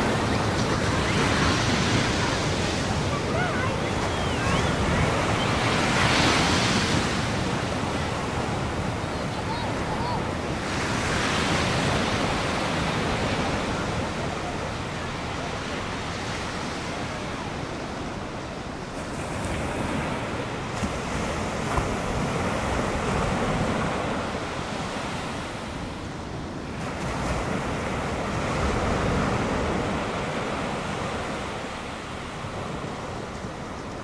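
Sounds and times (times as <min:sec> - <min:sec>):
waves breaking: 0:00.0 - 0:34.0.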